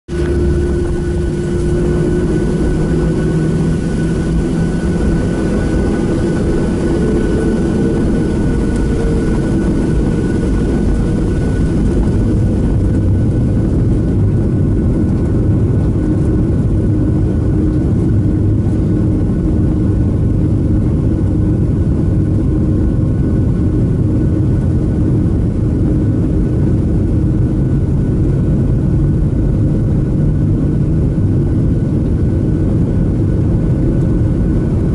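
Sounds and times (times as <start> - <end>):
jet engines heard from cabin: 0.1 - 34.9.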